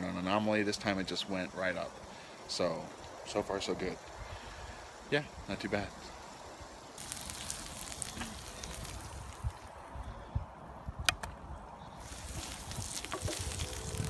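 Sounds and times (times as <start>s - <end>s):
sausages sizzling on a grill: 0.5s - 10.0s, 12.0s - 14.0s.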